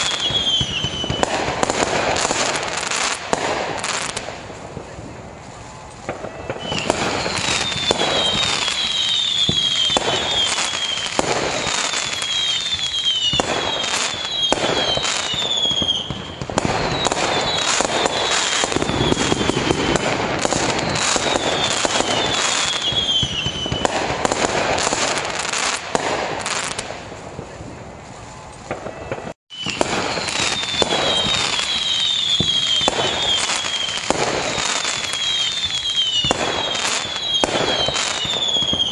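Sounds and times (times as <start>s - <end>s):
falling firework whistles: 0.0s - 38.9s
fireworks bangs and crackling: 0.0s - 38.9s.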